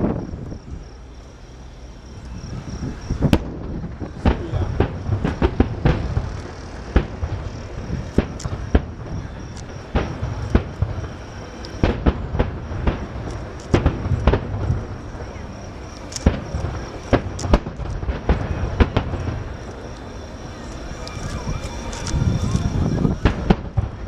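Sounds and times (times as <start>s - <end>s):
fireworks bangs: 2.2s - 24.0s.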